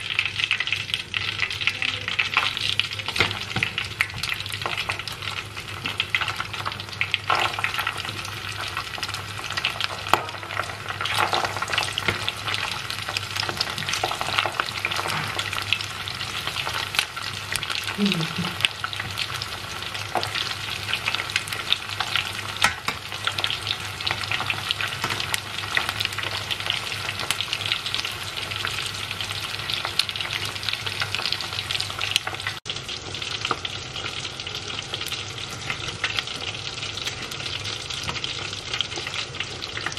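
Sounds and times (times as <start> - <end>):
food deep-frying in oil: 0.0 - 39.9.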